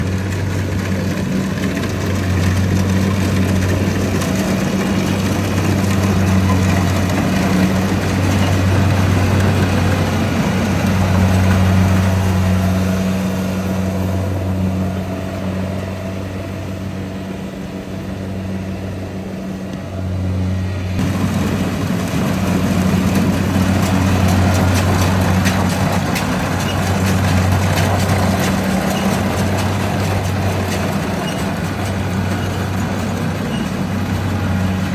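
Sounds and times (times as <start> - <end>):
combine harvester engine running: 0.0 - 34.9.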